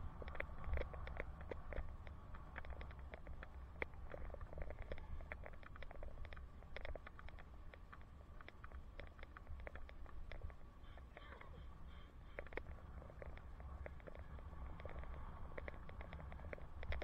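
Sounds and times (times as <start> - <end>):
light clicks and rattles: 0.0 - 11.5, 12.4 - 17.0
wind and road noise rumble: 0.0 - 17.0.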